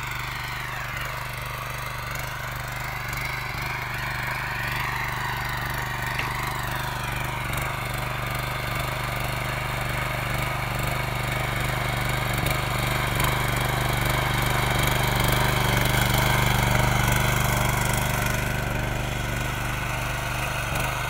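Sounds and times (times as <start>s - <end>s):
small tiller engine running: 0.0s - 21.0s.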